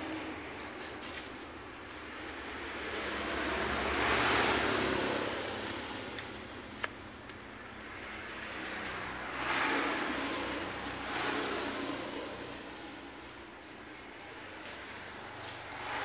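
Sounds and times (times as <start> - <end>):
passing road traffic: 0.0 - 16.0.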